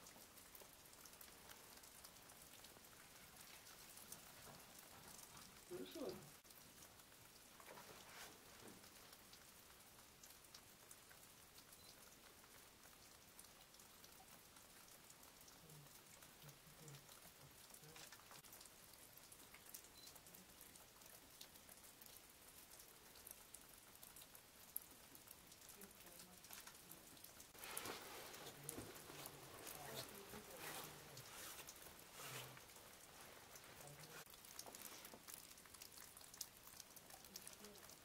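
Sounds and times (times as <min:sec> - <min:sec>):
water dripping: 0:00.0 - 0:38.0.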